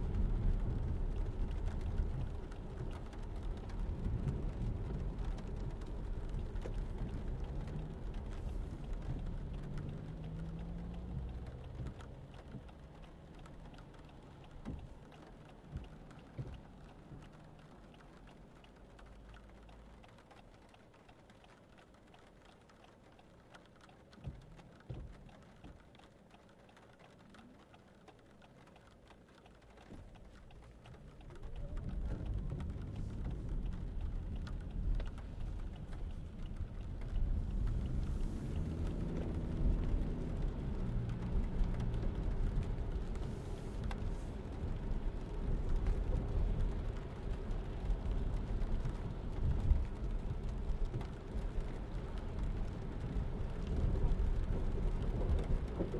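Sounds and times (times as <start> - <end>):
rain on a car: 0.0 - 55.9
tyres rumbling on wet road: 0.0 - 55.9.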